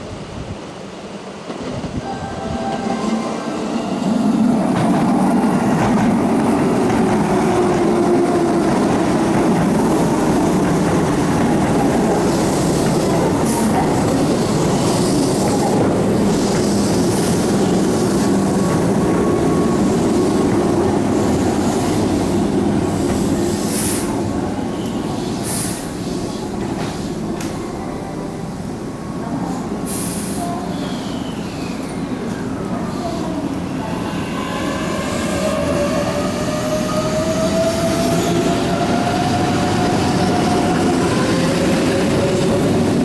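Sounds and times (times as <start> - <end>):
train rolling noise: 0.0 - 43.0.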